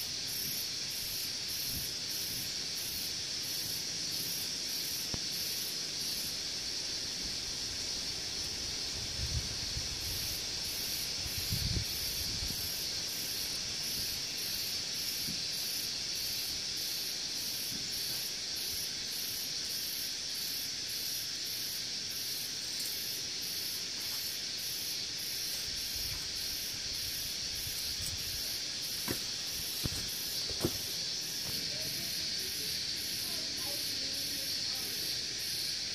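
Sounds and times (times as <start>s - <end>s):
high-pitched hiss: 0.0s - 35.9s.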